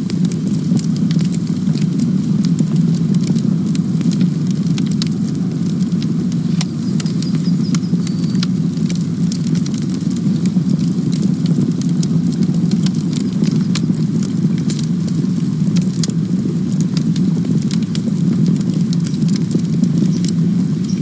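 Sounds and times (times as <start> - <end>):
burning wood crackling and popping: 0.0 - 21.0
campfire flames rumbling: 0.0 - 21.0.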